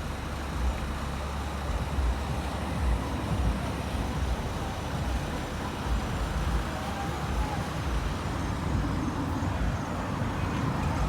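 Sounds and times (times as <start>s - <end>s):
truck engines rumbling: 0.0s - 11.0s.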